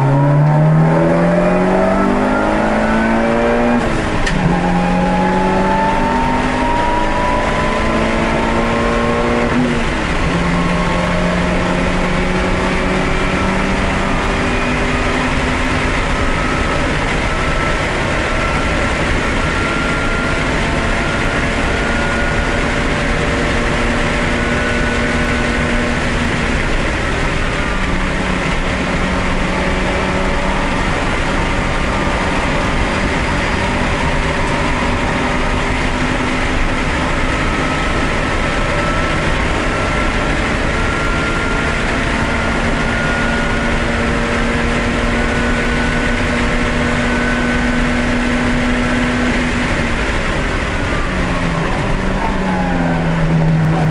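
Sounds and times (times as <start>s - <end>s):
race car engine at full throttle: 0.0s - 53.9s
road noise: 0.0s - 53.9s.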